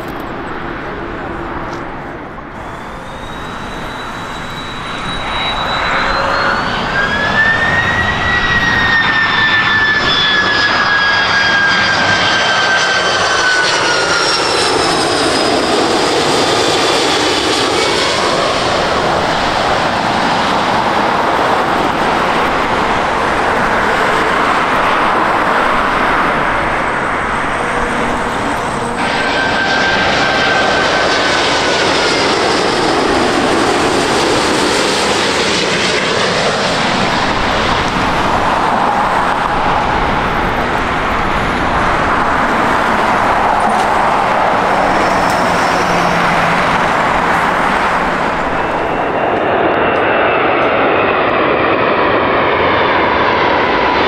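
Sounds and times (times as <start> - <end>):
high engine whine falling in pitch: 0.0 - 53.5
jet airliner engine roar: 0.0 - 54.0.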